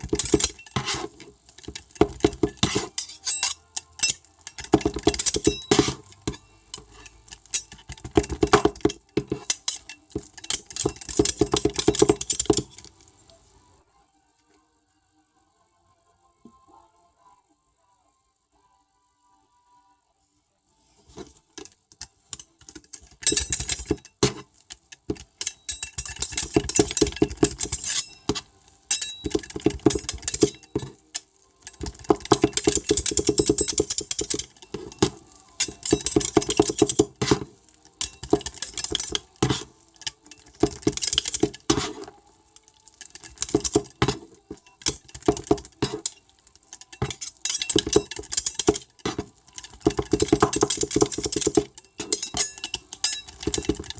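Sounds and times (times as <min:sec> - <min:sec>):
metal spatulas chopping on steel: 0:00.0 - 0:12.9, 0:21.6 - 0:42.2, 0:43.0 - 0:53.9.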